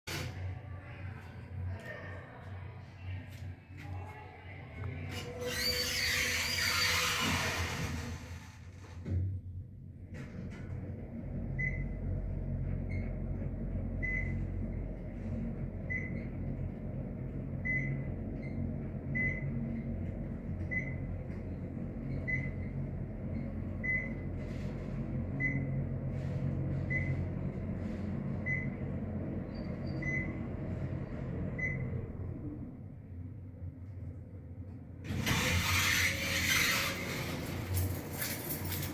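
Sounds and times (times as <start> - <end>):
elevator low hum: 0.1 - 38.9.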